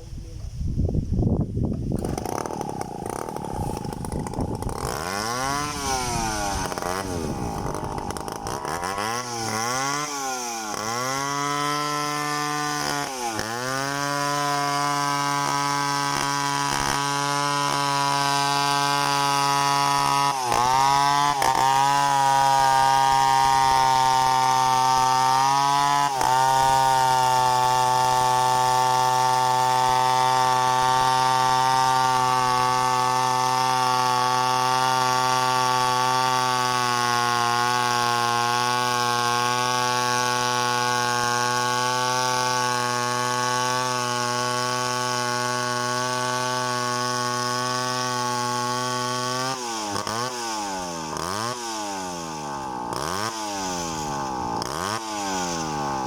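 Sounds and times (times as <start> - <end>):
chainsaw engine running: 1.6 - 56.0.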